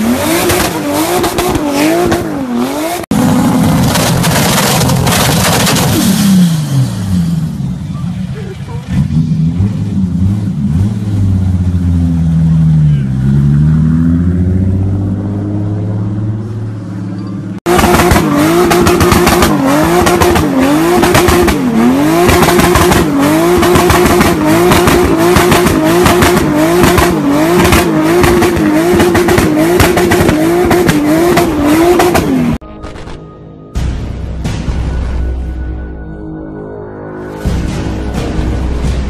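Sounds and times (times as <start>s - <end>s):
car engine revving: 0.0s - 33.2s.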